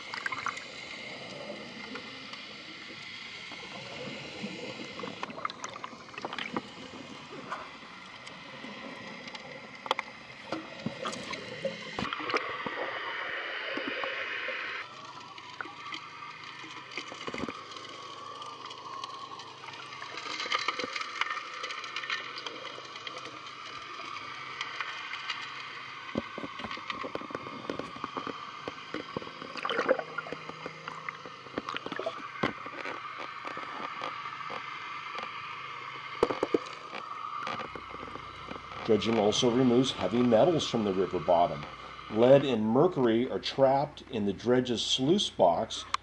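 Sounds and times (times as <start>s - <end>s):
underwater hum and water rush: 0.0s - 46.0s.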